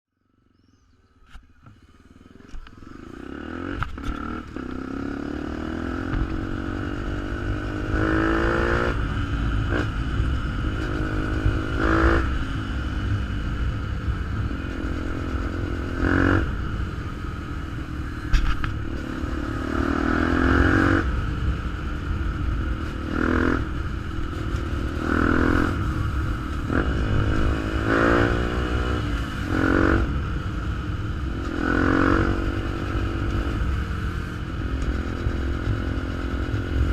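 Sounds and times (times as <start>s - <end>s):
motorcycle engine revving: 1.3s - 36.9s.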